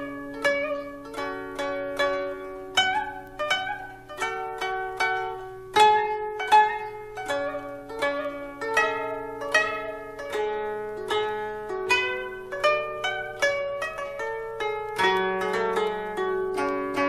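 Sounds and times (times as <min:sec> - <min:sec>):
plucked zither melody: 0:00.0 - 0:17.0.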